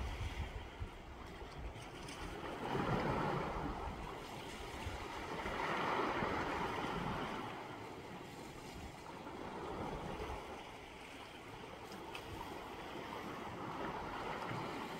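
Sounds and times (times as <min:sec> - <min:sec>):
sea waves washing onto shore: 0:00.0 - 0:14.9.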